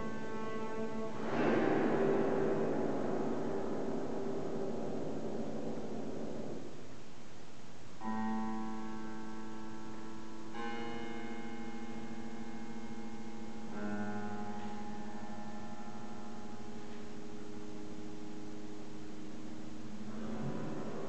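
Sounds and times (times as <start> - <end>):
piano strings ringing: 0.0 - 21.0.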